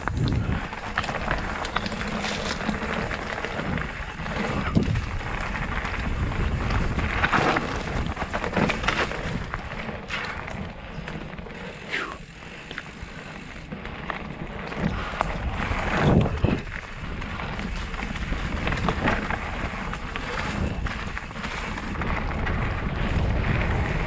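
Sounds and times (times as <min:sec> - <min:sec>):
bike knocking and rattling: 0:00.0 - 0:24.0
tyres rolling over dirt and rock: 0:00.0 - 0:24.0
wind noise on microphone: 0:00.0 - 0:24.0.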